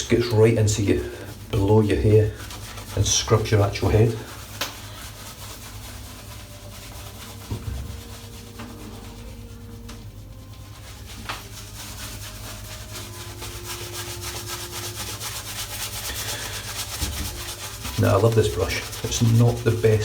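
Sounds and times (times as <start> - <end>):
shaving brush scratching through lather: 0.0 - 20.0.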